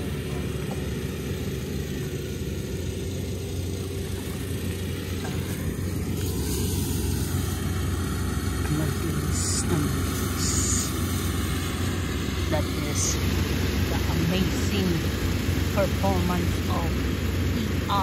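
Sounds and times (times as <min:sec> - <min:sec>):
combine harvester engine humming: 0:00.0 - 0:18.0.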